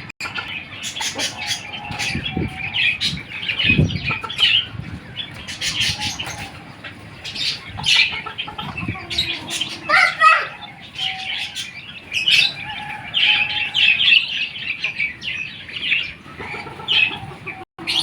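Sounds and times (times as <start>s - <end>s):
chickens clucking and chirping: 0.0s - 18.0s.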